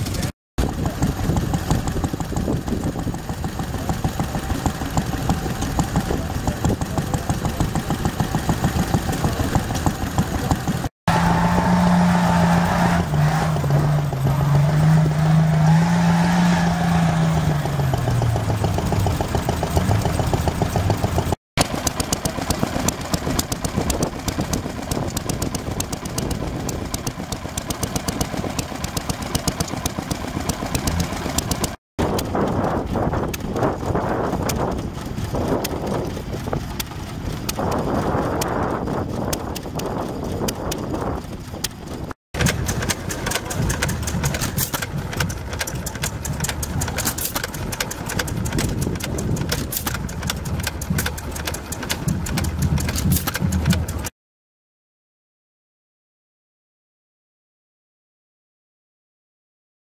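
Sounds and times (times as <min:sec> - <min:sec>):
stationary engines running: 0:00.0 - 0:54.1.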